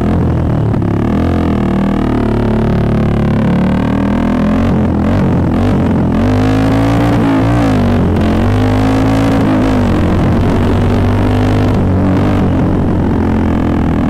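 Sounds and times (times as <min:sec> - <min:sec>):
single-cylinder motorcycle engine: 0:00.0 - 0:14.0.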